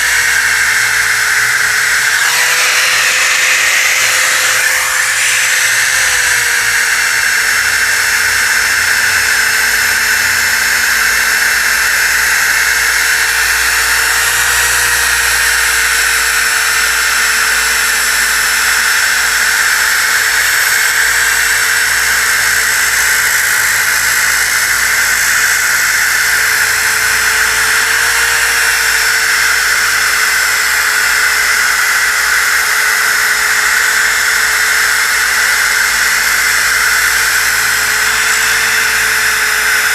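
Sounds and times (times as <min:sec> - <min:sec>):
disc sander whining: 0:00.0 - 0:39.9.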